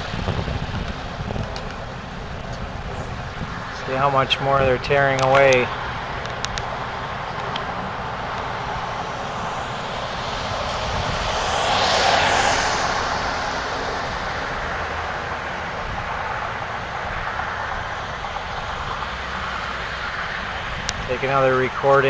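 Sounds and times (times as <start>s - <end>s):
traffic rumble: 0.0s - 22.0s
vehicle passing by: 0.0s - 22.0s.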